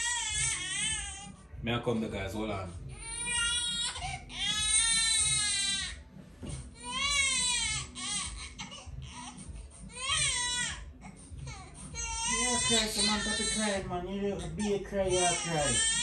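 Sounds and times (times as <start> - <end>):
newborn baby crying: 0.0 - 1.4, 2.9 - 16.0.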